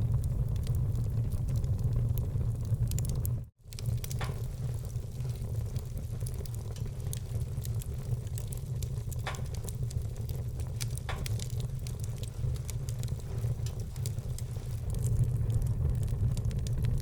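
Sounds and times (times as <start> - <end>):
fire crackling: 0.0 - 17.0
loud fire pops: 0.0 - 17.0
low rumble of flames: 0.0 - 17.0.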